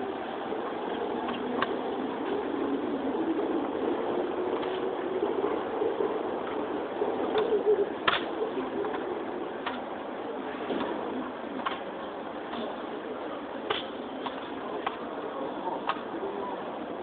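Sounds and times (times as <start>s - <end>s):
city street traffic hum: 0.0s - 17.0s.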